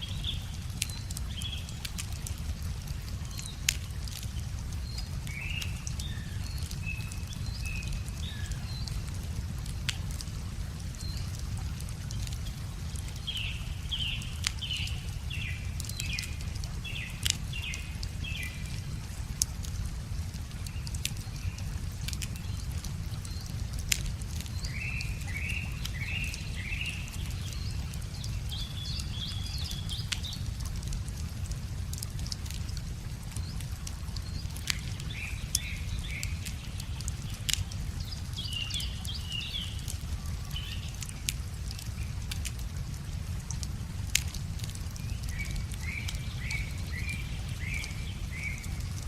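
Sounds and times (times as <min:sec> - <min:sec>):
songbirds chirping: 0:00.0 - 0:49.0
wood fire crackling: 0:00.0 - 0:49.0.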